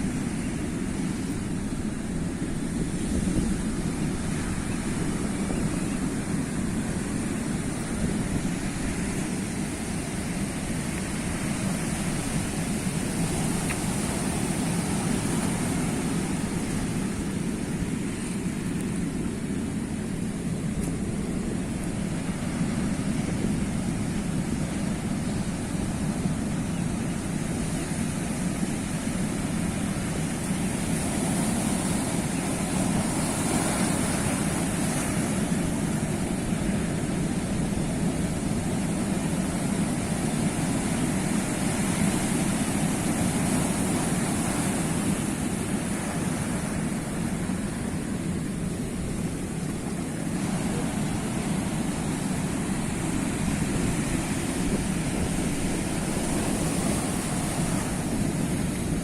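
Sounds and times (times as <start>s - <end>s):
sea waves washing on shore: 0.0s - 59.0s.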